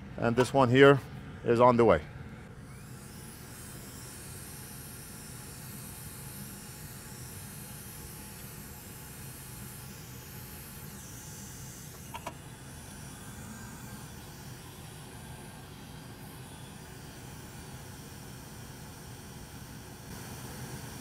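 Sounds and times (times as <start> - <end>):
hot-air station hissing: 2.6 - 21.0.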